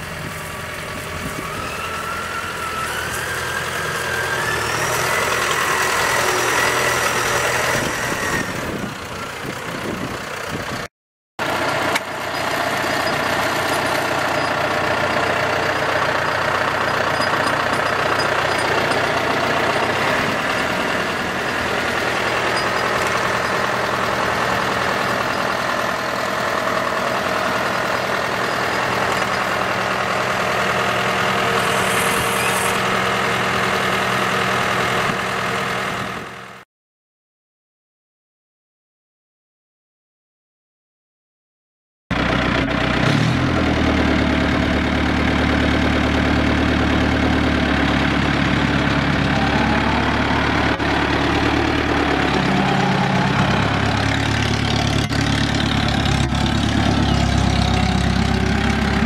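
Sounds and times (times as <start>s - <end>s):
tractor engine running: 0.0s - 36.6s, 42.1s - 59.0s.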